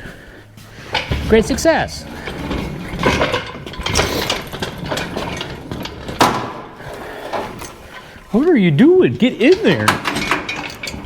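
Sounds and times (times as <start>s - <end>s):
engine hoist rattling and clanking: 0.0s - 11.0s.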